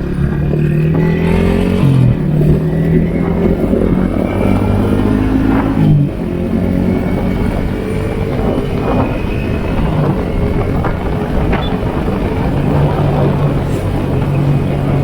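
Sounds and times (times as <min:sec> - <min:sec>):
constant rush of noise: 0:00.0 - 0:15.0
motorcycle engine running: 0:00.0 - 0:15.0.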